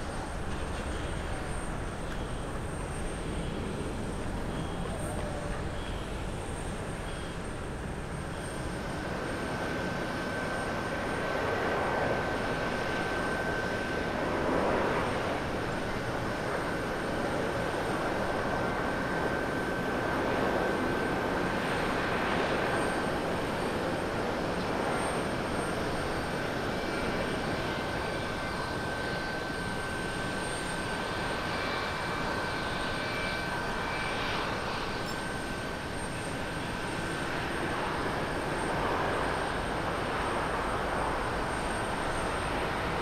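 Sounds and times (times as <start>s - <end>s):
jet engine rumble: 0.0s - 43.0s.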